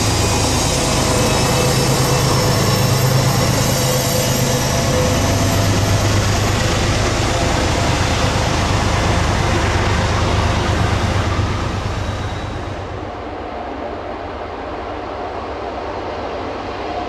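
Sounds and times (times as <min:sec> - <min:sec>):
diesel locomotive engine drone: 0:00.0 - 0:17.0
train wheels rumbling: 0:00.0 - 0:17.0.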